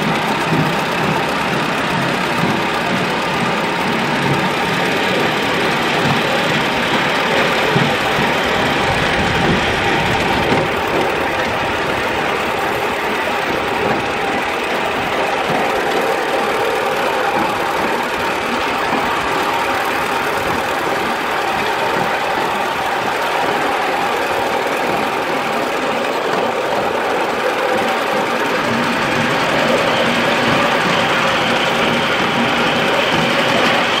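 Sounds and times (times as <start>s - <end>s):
steam locomotive chuffing: 0.0s - 34.0s
wheels rattling on rails: 0.0s - 34.0s.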